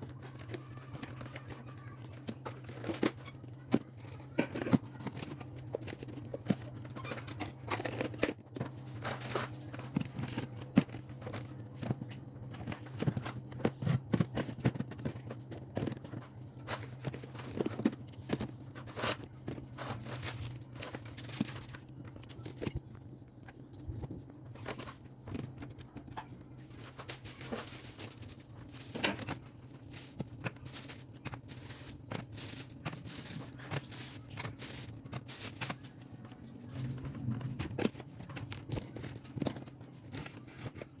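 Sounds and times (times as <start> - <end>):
steady low hum: 0.0 - 41.0
plastic packaging crinkling: 4.0 - 41.0.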